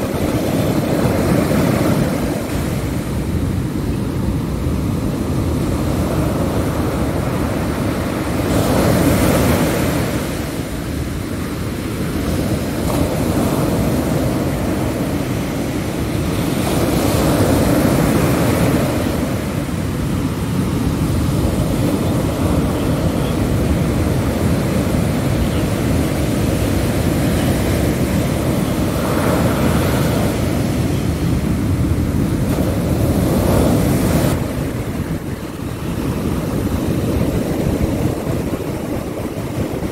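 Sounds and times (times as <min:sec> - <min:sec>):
ocean surf rumble: 0:00.0 - 0:39.9
wave washing in: 0:00.0 - 0:39.9
wind buffeting microphone: 0:00.0 - 0:39.9.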